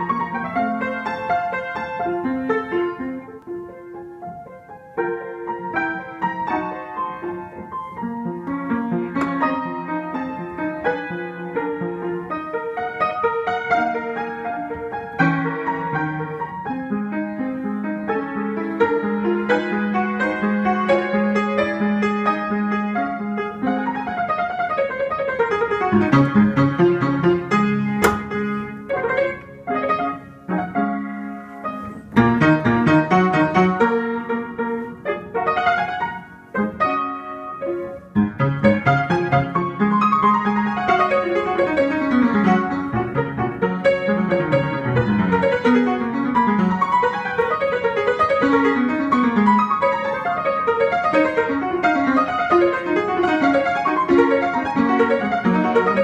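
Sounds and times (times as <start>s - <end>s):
piano playing: 0.0s - 56.0s.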